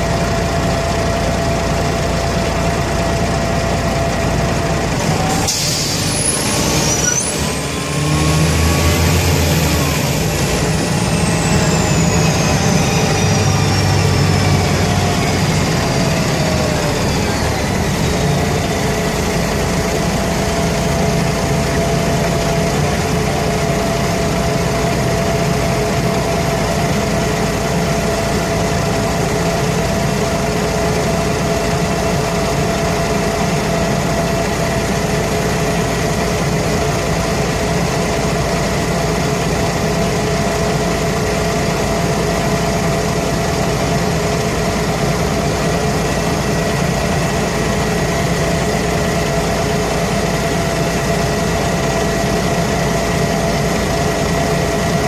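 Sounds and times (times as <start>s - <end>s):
diesel bus engine running: 0.0s - 55.0s
steady whining tones: 0.0s - 55.0s.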